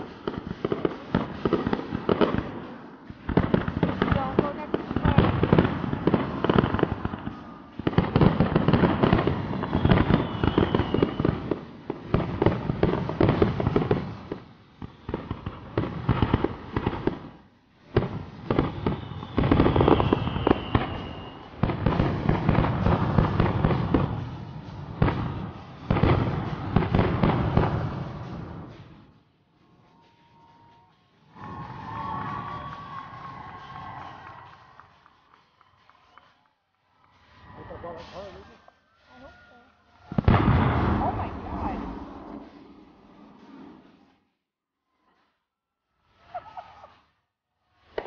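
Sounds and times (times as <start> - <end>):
falling firework whistle: 0.0 - 29.1, 29.8 - 42.6, 44.9 - 48.0
fireworks bangs and crackling: 0.0 - 48.0.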